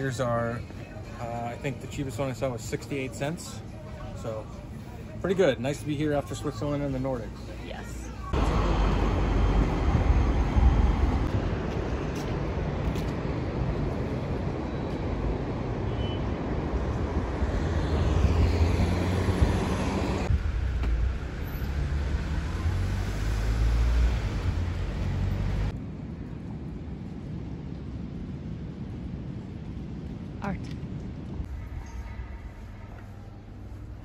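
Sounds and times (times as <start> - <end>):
rumble of passing vehicles: 0.0 - 34.0.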